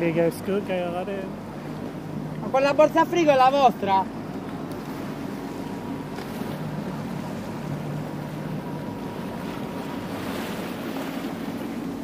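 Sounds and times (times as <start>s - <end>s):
outboard engine humming: 0.0s - 12.0s
water noise: 0.0s - 12.0s.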